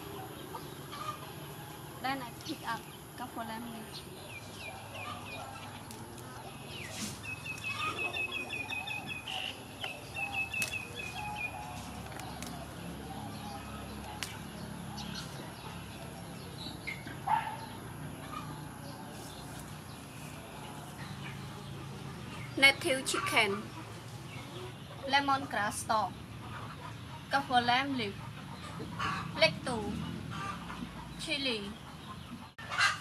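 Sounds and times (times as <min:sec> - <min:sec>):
birds chirping: 0:00.0 - 0:33.0
chickens clucking: 0:00.0 - 0:33.0.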